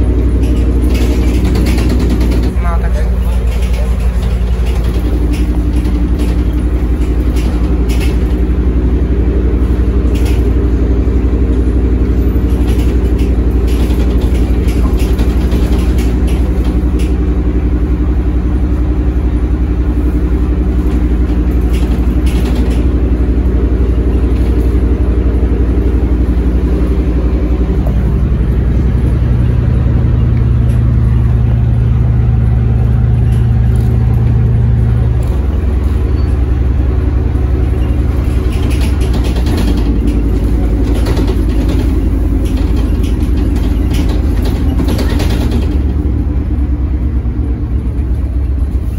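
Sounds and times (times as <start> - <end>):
bus engine running: 0.0 - 48.9
faint clicks and rattles: 0.0 - 48.9.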